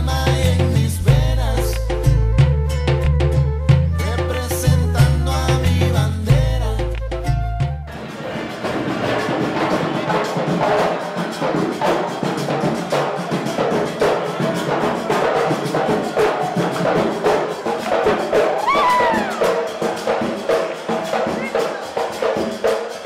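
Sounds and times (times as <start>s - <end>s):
lively music with percussion and brass: 0.0s - 23.0s.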